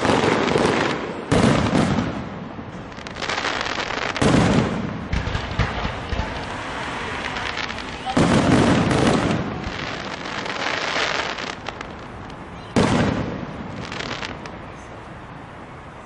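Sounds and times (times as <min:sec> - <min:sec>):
fireworks bangs: 0:00.0 - 0:14.6
fireworks popping and crackling: 0:00.0 - 0:14.6.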